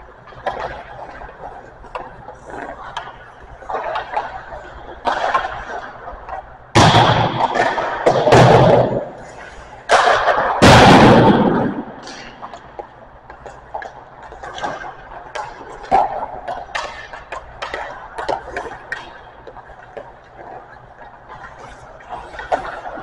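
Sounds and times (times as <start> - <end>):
pucks hitting rink boards: 0.3 - 23.0.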